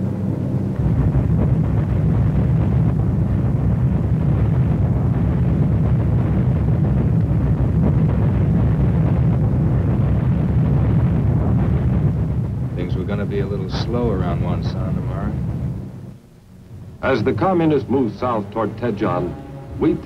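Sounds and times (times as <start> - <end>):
deep rumble of bombs exploding: 0.0 - 20.0.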